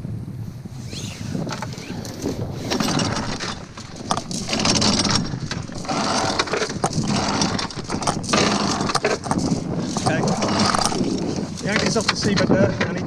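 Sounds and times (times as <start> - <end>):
wind noise on microphone: 0.0 - 13.0
anchor chain clanking: 1.3 - 13.0.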